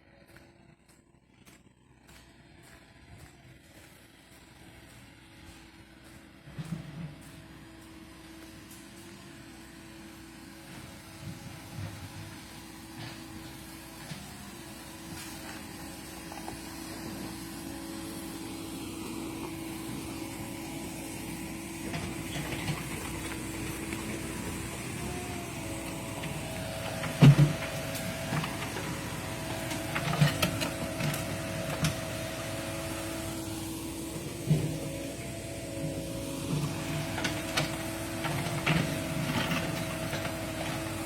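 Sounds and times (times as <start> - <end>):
excavator engine and hydraulic whine: 0.0 - 41.0.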